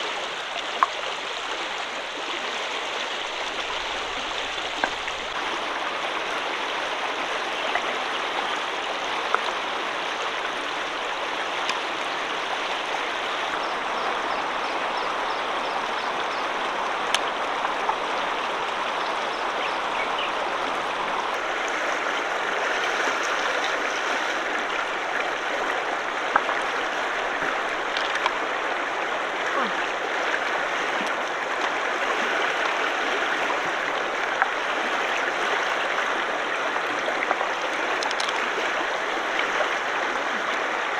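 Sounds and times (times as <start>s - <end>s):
shallow river water running: 0.0s - 40.9s.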